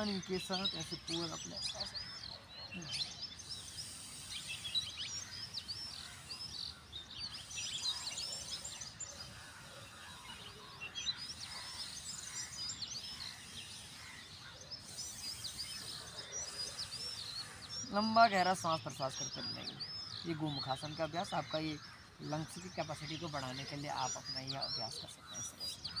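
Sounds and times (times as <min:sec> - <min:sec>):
small birds chirping: 0:00.0 - 0:26.0
steady background hiss: 0:02.9 - 0:25.7.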